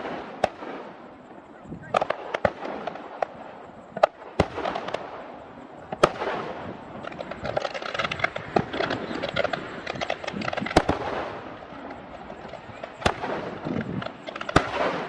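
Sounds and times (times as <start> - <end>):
crackling firework bursts: 0.0 - 15.0
firework booms: 0.0 - 15.0.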